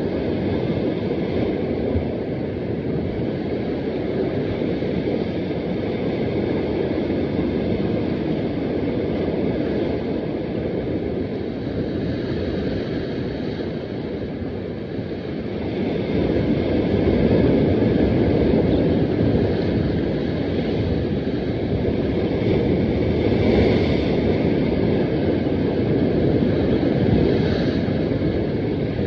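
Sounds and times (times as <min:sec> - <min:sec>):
waves breaking against rocks: 0:00.0 - 0:29.0
wind buffeting microphone: 0:00.0 - 0:29.0.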